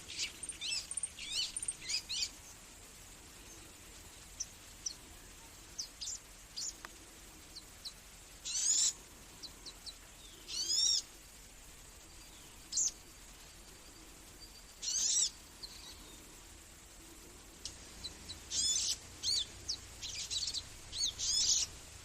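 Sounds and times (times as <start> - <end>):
longer bird calls: 0.0 - 2.7, 3.3 - 11.2, 12.0 - 16.6, 17.3 - 22.0
small birds chirping: 0.0 - 22.0.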